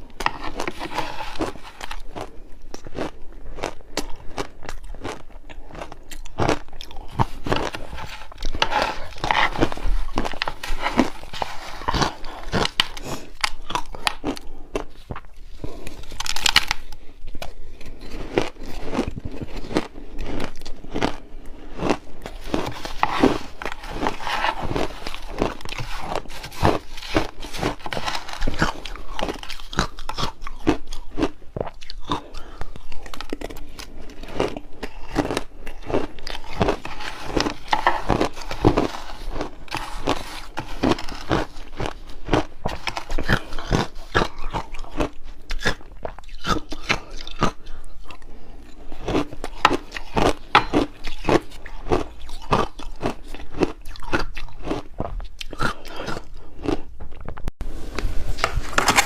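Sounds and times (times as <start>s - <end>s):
person crunching ice: 0.0s - 57.4s, 58.0s - 59.0s.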